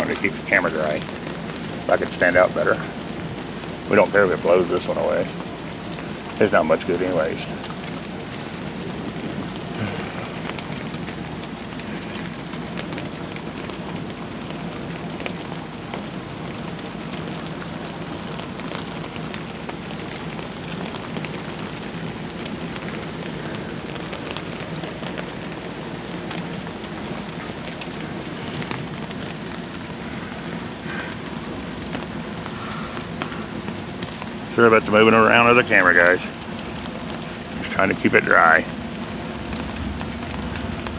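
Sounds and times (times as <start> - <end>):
heavy rain falling: 0.0 - 40.9
rain drops ticking on umbrella: 0.0 - 40.9.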